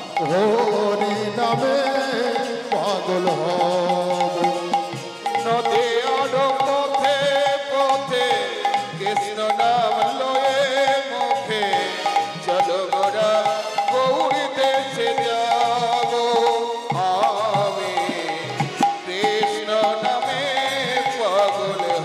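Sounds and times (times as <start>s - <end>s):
hand drum beat: 0.0s - 22.0s
ornamented melody line: 0.0s - 22.0s.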